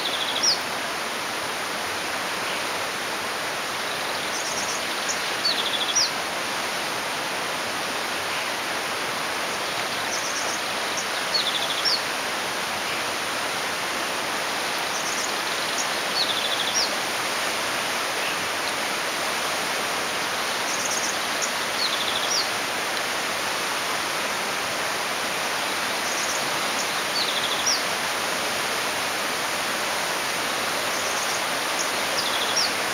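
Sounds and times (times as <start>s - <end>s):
running water rushing: 0.0s - 32.9s.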